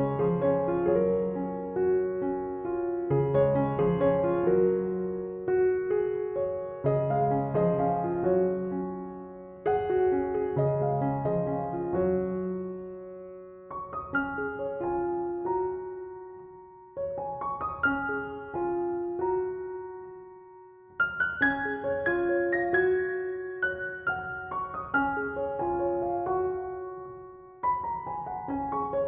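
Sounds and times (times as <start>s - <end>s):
solo piano music: 0.0s - 29.0s.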